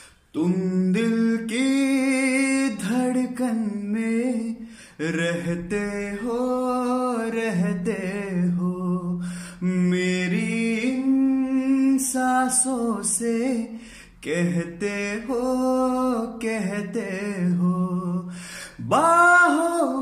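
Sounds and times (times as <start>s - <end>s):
man singing unaccompanied: 0.3s - 20.0s.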